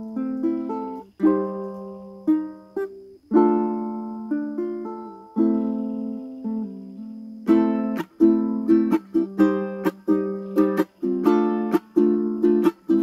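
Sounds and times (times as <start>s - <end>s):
ukulele playing: 0.0s - 13.0s.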